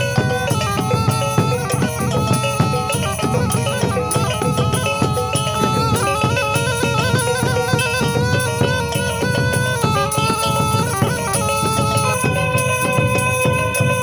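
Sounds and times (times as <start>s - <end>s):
fast percussion beat: 0.0s - 14.0s
reed pipe melody: 0.0s - 14.0s.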